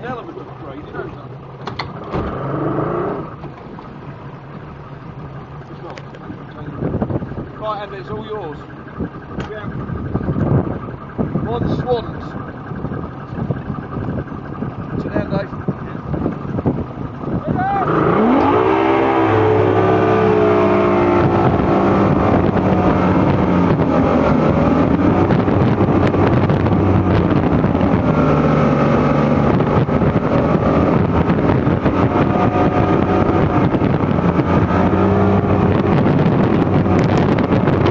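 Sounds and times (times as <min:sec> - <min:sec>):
outboard motor running hard: 0:00.0 - 0:37.9
wind buffeting microphone: 0:03.2 - 0:37.9.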